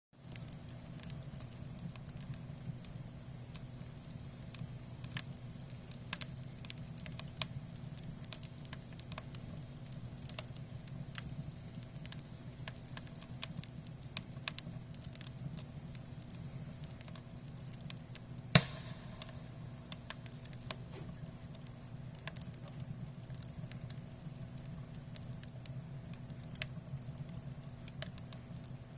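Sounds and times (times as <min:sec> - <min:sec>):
firewood crackling and popping: 0:00.2 - 0:28.9.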